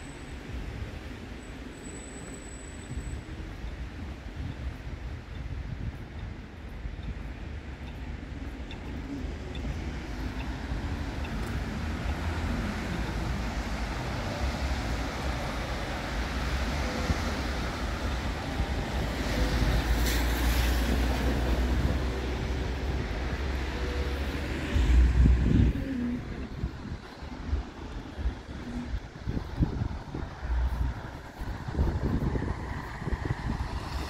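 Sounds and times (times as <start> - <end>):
traffic on wet roads: 0.0 - 34.0
wind buffeting microphone: 2.9 - 34.0.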